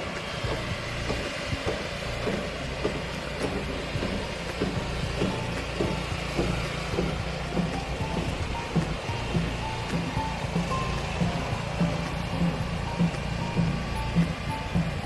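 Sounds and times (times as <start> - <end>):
engine running: 0.0 - 15.0
knocking and clattering: 0.0 - 15.0.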